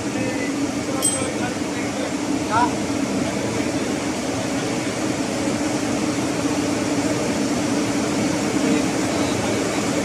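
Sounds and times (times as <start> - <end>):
engine room machinery drone: 0.0 - 10.0.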